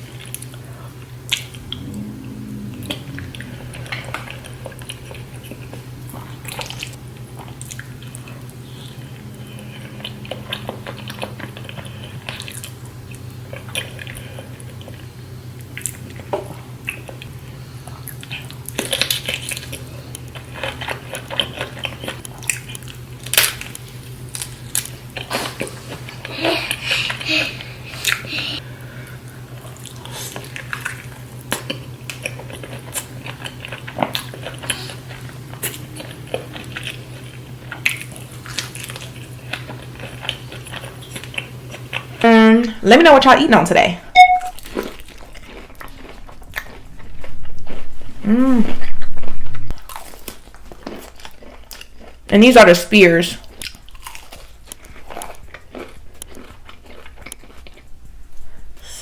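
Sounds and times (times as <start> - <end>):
steady low hum: 0.0 - 59.0
person biting and chewing: 2.7 - 26.9, 29.6 - 42.2, 44.2 - 52.3, 53.4 - 58.0.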